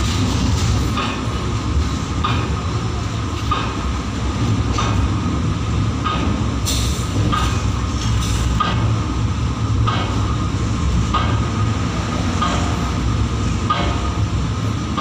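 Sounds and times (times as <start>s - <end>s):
train rumbling on track: 0.0s - 15.0s
train wheel clacks: 0.0s - 15.0s.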